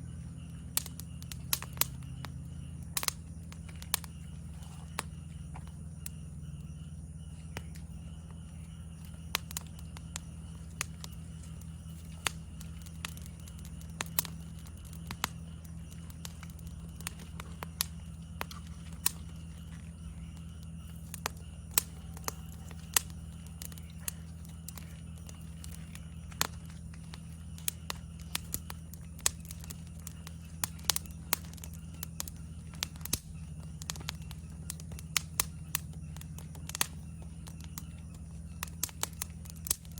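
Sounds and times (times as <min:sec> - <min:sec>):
insects chirring: 0:00.0 - 0:39.9
steady low hum: 0:00.0 - 0:39.9
wood fire crackling and popping: 0:00.0 - 0:39.9.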